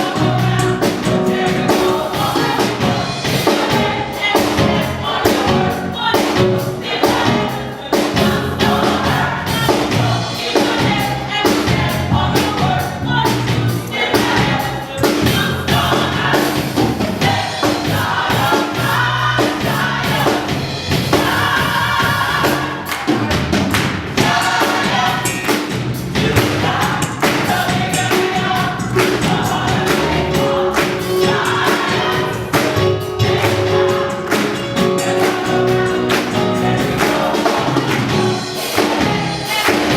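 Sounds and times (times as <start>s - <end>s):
choir singing gospel music: 0.0s - 39.9s
instrumental backing with beat: 0.0s - 39.9s.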